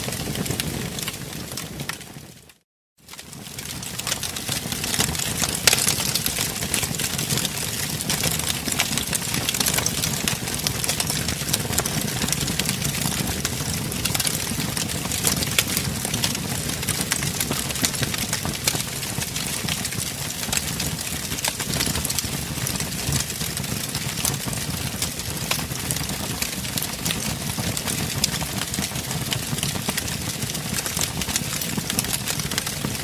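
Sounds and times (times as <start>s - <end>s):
wood fire pops and snaps: 0.1s - 2.1s, 3.1s - 33.0s
low rumble of flames: 0.1s - 2.5s, 3.1s - 33.0s.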